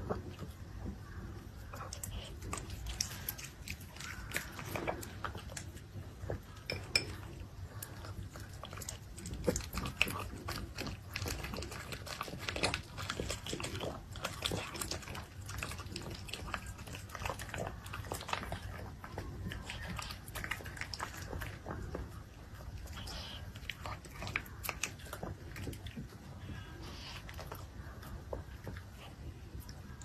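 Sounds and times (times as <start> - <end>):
dog chewing and slurping food: 0.0 - 30.0.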